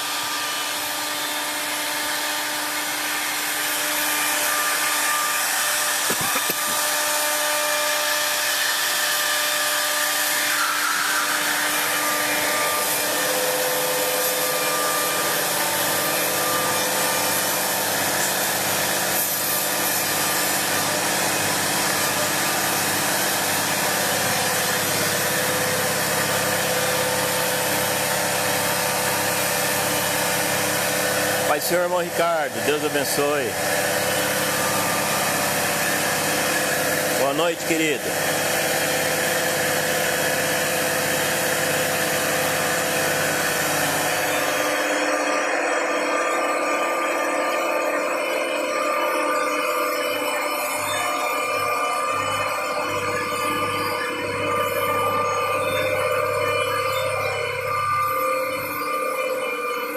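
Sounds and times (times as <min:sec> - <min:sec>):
cutter machining wood: 0:00.0 - 0:59.9
router spindle whining: 0:00.0 - 0:59.9.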